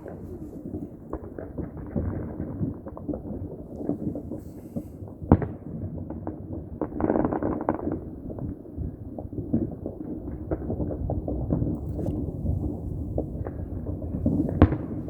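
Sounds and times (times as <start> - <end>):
fireworks popping and banging: 0.0 - 15.0.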